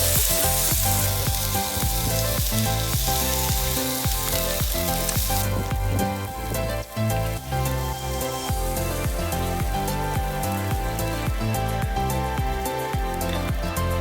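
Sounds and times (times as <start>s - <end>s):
background music with plucked notes: 0.0s - 14.0s
food sizzling as it fries: 0.0s - 14.0s.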